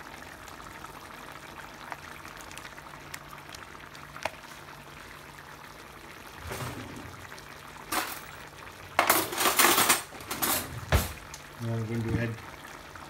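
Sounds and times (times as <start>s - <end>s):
sauce simmering and bubbling: 0.0s - 9.0s, 11.2s - 13.0s.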